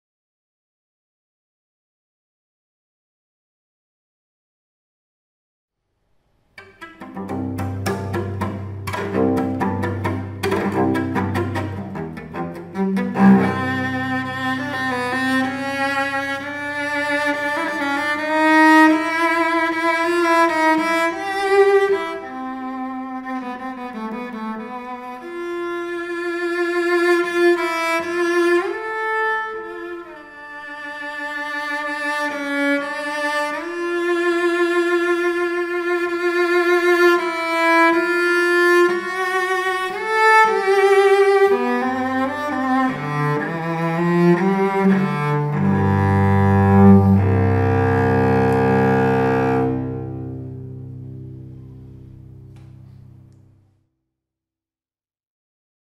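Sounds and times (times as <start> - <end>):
bowed cello with vibrato: 6.6 - 53.3.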